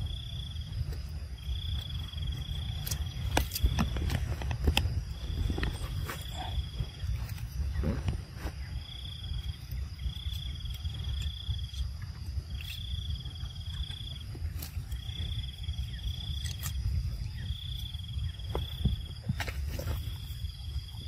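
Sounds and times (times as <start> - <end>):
insect trilling: 0.0 - 21.0
steady low rumble: 0.0 - 21.0.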